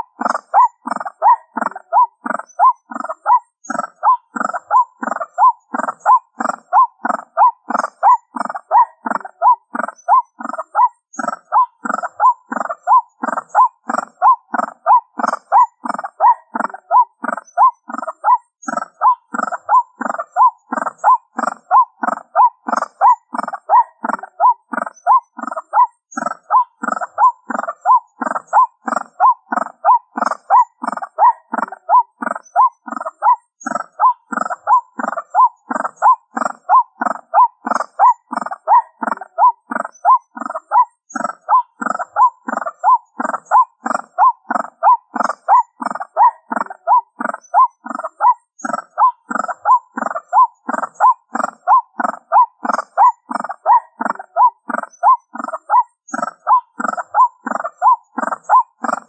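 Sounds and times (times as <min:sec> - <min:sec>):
waterhen calling: 0:00.0 - 0:59.0.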